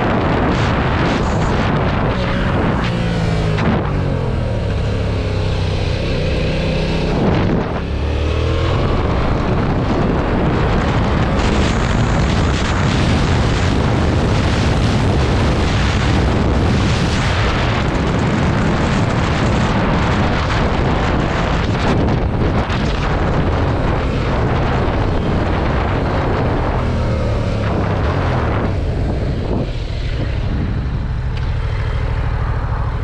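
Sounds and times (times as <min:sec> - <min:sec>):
motorcycle engine revving: 0:00.0 - 0:33.0
wind noise on microphone: 0:00.0 - 0:33.0.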